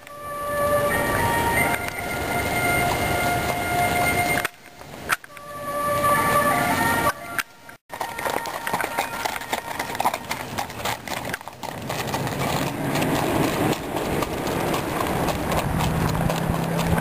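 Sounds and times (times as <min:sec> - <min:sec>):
hooves clip-clopping on road: 0:00.0 - 0:17.0.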